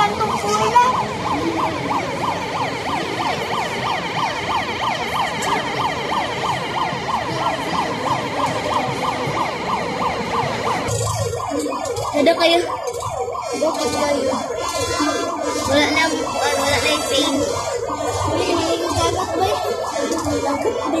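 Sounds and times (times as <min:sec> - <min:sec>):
electronic siren yelping: 0:00.0 - 0:21.0.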